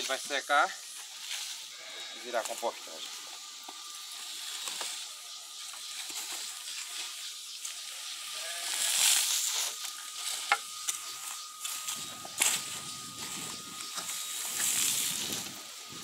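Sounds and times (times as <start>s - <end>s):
raking weeds and grass: 0.0s - 16.0s.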